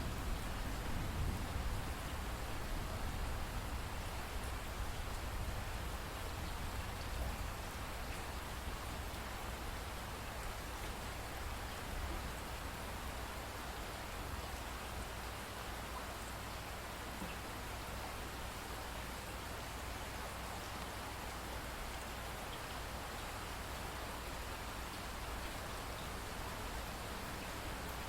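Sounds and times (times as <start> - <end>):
steady rainfall hiss: 0.0 - 28.0.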